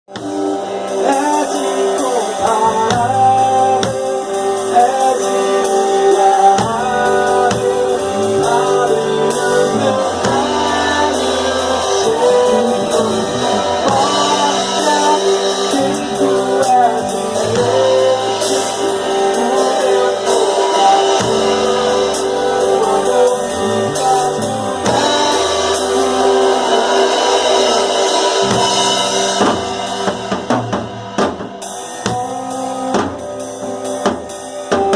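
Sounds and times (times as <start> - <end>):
drum kit: 0.0 - 34.9
guitar: 0.0 - 34.9
person singing: 0.1 - 34.9.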